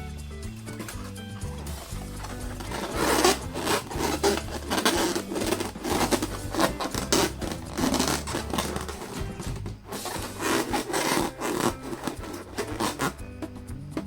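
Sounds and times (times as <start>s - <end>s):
background music with bass: 0.0s - 14.0s
hands rubbing a balloon: 0.8s - 14.0s.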